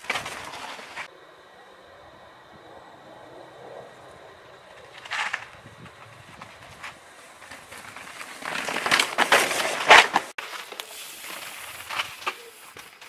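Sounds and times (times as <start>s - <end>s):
bike tyres crunching over rocky trail: 0.0s - 1.1s, 3.5s - 13.0s
tyres crackling on gravel: 0.0s - 1.1s, 3.3s - 13.0s.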